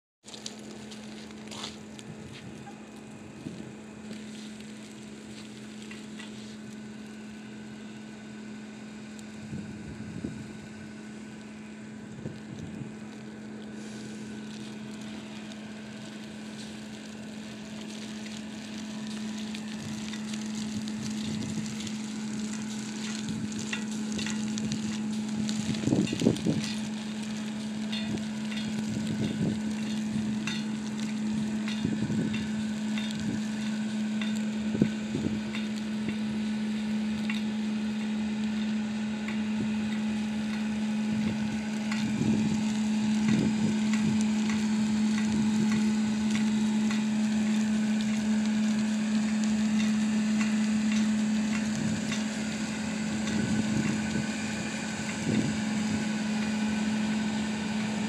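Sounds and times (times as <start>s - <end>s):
steady low hum: 0.2s - 58.0s
ice pellets hissing on pavement: 0.3s - 8.2s, 10.4s - 58.0s.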